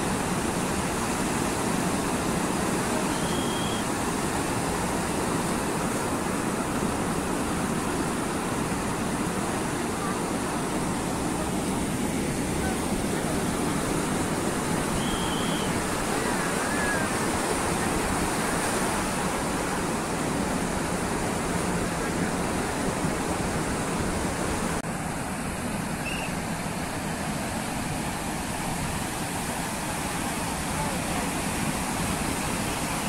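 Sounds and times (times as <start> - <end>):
sea surf breaking: 0.0 - 33.0.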